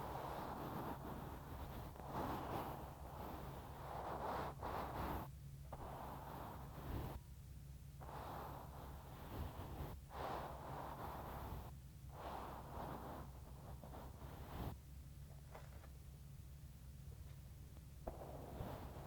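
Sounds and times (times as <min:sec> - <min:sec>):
soft brush strokes on microphone: 0:00.0 - 0:07.2, 0:08.0 - 0:16.0, 0:17.2 - 0:19.0.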